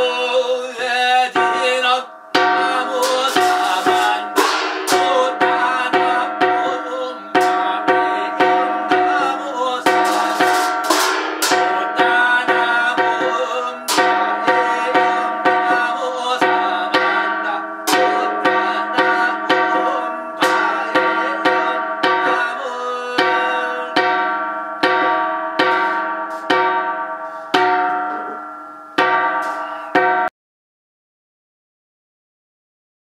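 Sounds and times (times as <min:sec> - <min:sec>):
brass cymbals clashing: 0:01.4 - 0:30.3.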